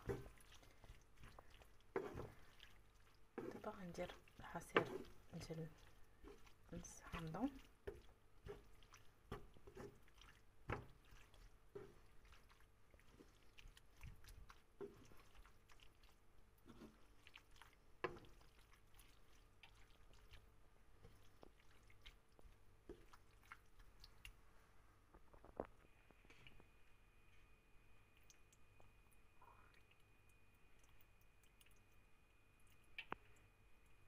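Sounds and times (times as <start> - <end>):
wooden spoon stirring wet filling: 0.0 - 26.8, 27.4 - 34.0.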